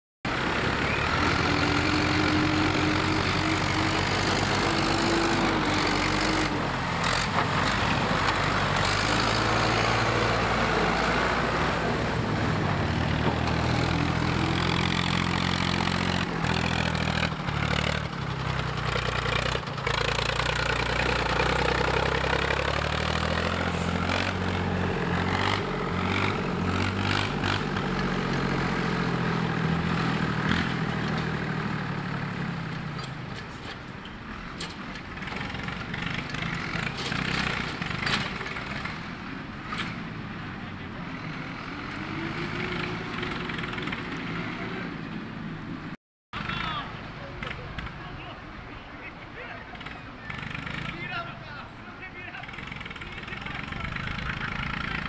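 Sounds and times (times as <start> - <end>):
tractor diesel engines revving: 0.3 - 55.0.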